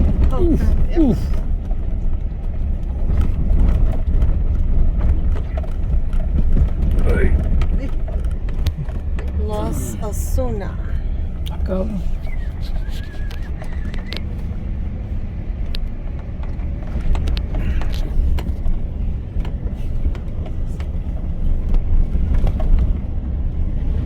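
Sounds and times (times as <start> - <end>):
car rumbling on rough road: 0.0 - 24.0.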